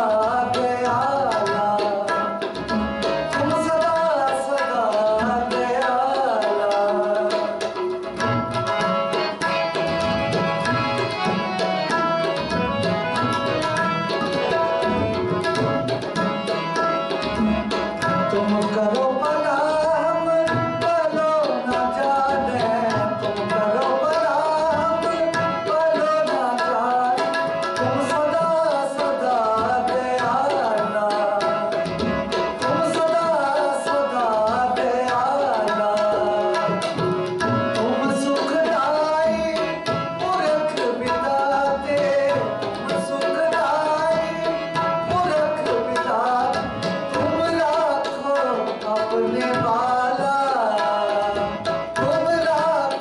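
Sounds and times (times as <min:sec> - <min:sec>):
harmonium chords: 0:00.0 - 0:53.0
tabla rhythm: 0:00.0 - 0:53.0.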